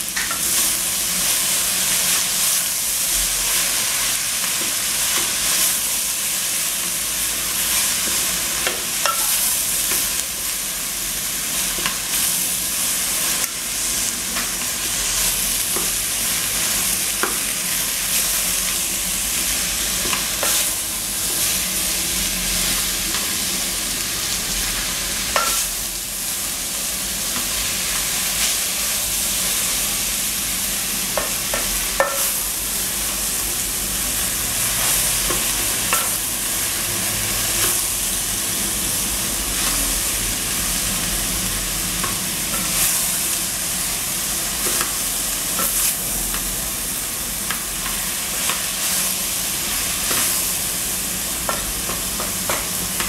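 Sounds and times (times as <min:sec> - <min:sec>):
cabbage sizzling in a pot: 0:00.0 - 0:53.0.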